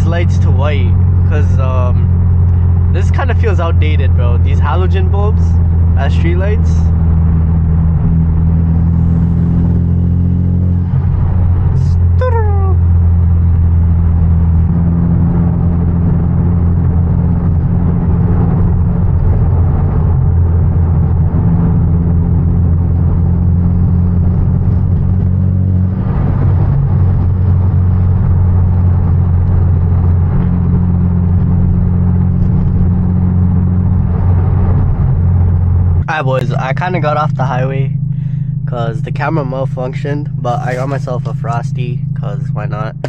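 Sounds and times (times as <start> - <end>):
car engine droning: 0.0 - 43.0
road rumble: 0.0 - 43.0.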